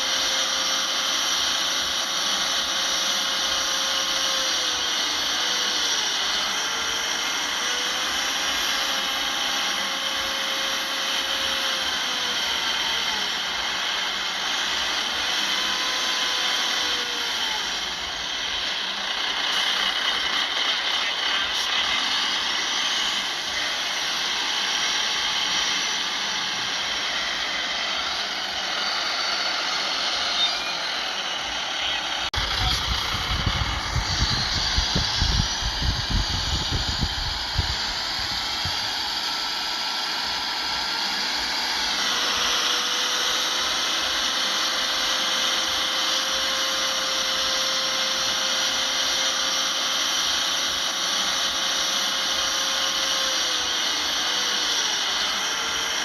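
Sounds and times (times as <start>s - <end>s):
heavy machinery engine whining: 0.0s - 56.0s.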